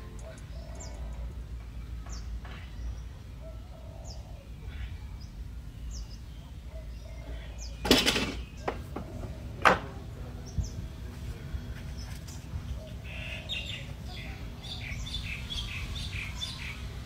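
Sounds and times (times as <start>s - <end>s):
bird chirping: 0.0s - 9.6s, 11.8s - 17.0s.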